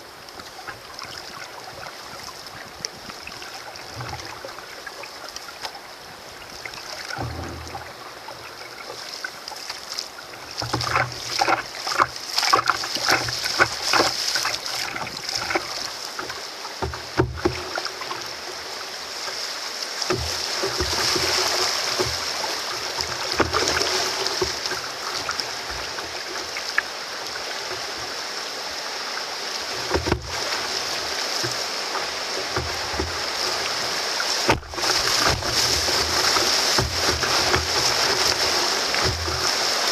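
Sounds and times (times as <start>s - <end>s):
splashes and knocks: 0.0s - 5.8s, 6.4s - 28.4s, 29.5s - 39.9s
river rapids rushing: 0.0s - 39.9s.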